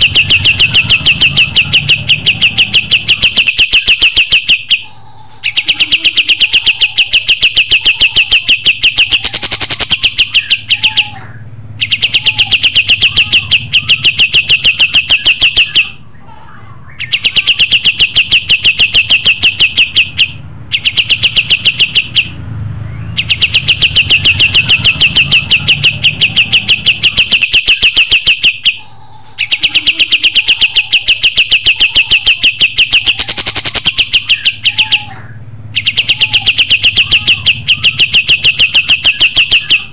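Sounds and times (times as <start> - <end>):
songbird rapid trill: 0.0 - 16.0, 17.0 - 35.2, 35.8 - 39.9.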